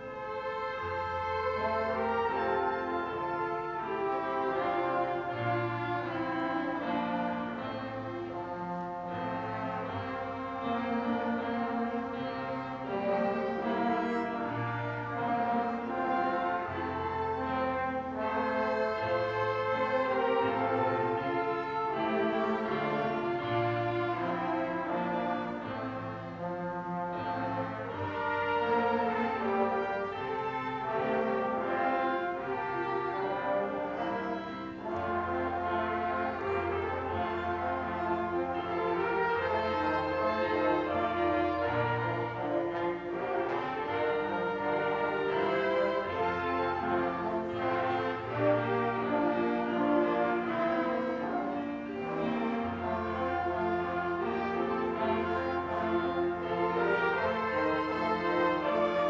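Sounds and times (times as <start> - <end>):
brass and strings orchestra playing: 0.0 - 59.0.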